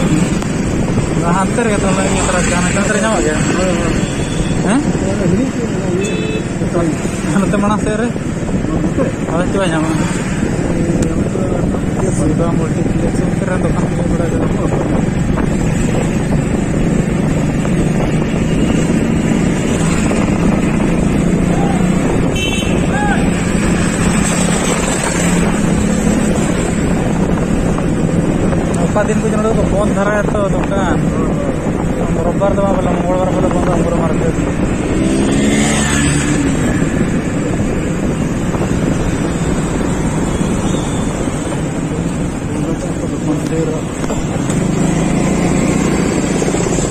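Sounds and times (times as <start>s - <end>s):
moving vehicle running noise: 0.0s - 46.9s
wind rushing over microphone: 0.0s - 46.9s.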